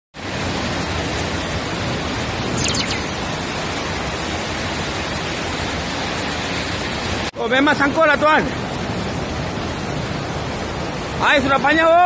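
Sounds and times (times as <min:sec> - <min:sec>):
floodwater rushing: 0:00.2 - 0:12.0.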